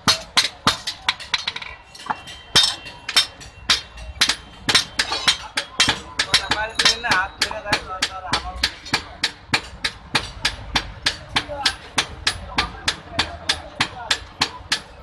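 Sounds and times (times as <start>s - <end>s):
hammers ringing on anvil: 0.0s - 15.0s.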